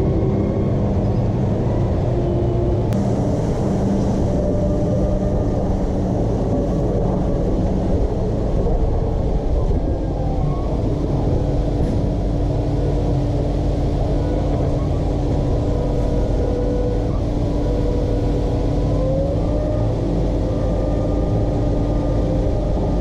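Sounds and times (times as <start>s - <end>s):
combine harvester droning: 0.0s - 23.0s.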